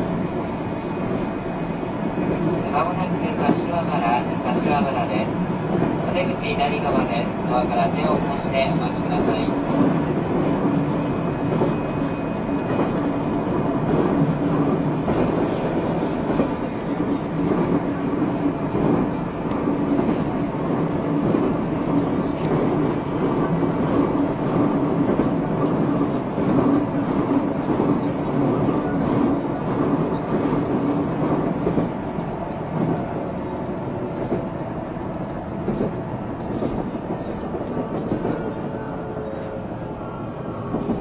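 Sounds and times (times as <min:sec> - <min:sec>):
clickety-clack of rails: 0:00.0 - 0:41.0
train wheels rumbling on rail: 0:00.0 - 0:41.0.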